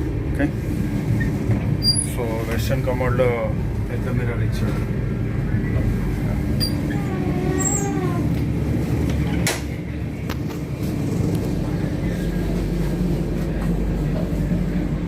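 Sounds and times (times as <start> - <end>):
train coach rumble: 0.0 - 15.0.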